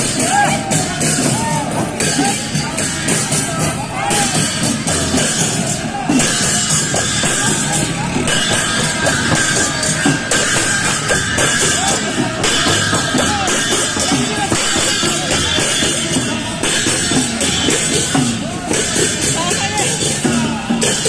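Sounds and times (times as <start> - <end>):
barrel drums beaten: 0.0 - 21.0
crowd voices: 0.0 - 21.0
hand cymbals clashing: 0.0 - 21.0.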